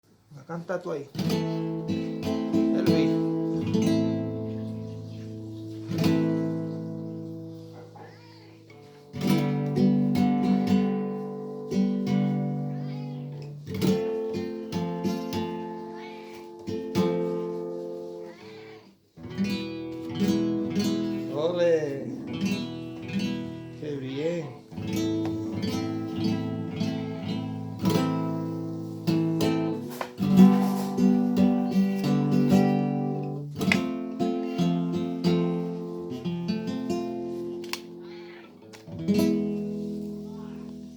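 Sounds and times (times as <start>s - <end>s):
flamenco guitar strummed chords: 0.9s - 40.9s.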